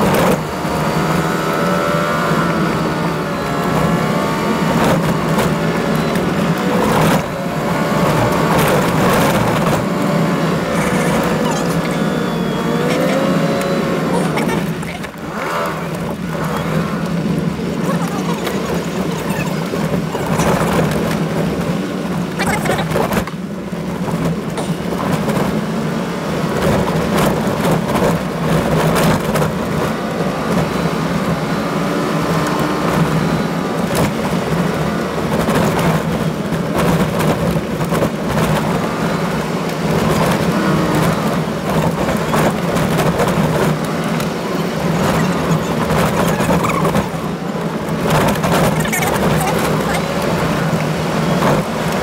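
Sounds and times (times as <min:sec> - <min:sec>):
engine and road drone: 0:00.0 - 0:52.0.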